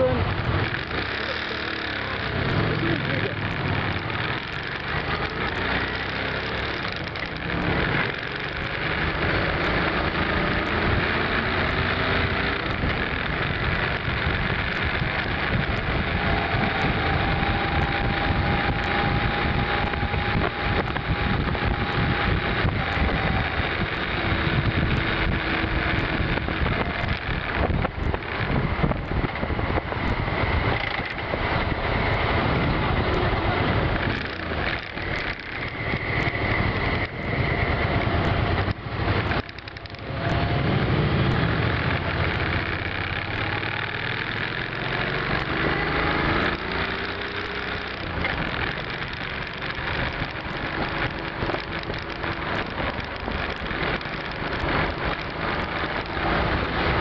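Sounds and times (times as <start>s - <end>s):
motorcycle engine running: 0.0s - 57.0s
wind noise on microphone: 2.3s - 57.0s.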